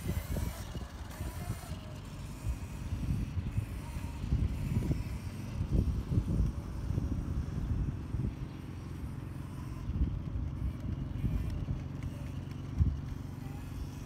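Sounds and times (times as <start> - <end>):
electric quad bike rumbling: 0.0 - 14.0.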